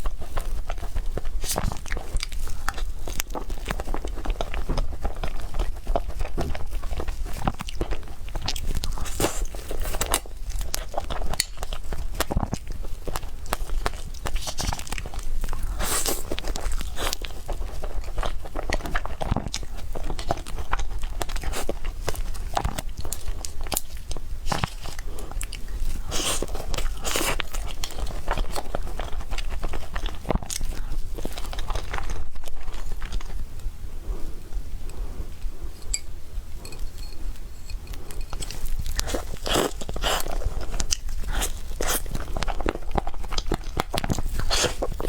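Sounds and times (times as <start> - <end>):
chewing and biting food: 0.0 - 34.6, 36.6 - 45.0.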